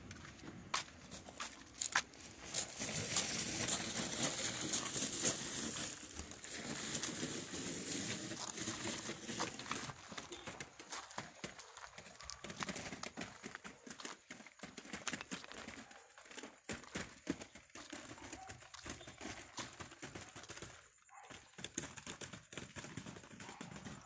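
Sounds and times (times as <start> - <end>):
cart wheels crunching over gravel: 0.0 - 24.0.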